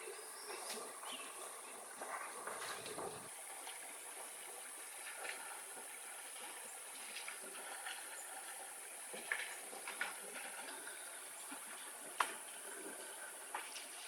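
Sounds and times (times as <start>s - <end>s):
steady hiss of cooking: 0.0s - 14.0s.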